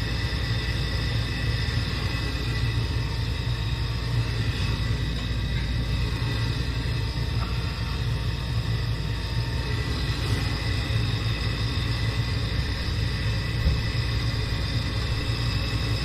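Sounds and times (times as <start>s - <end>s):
faint steady whine: 0.0s - 16.0s
furnace motor low rumble: 0.0s - 16.0s.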